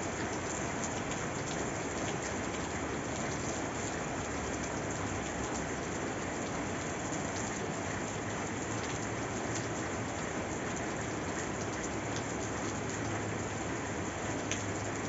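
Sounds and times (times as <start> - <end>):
steady rain hiss: 0.0 - 15.0
faint raindrop ticks: 0.1 - 15.0.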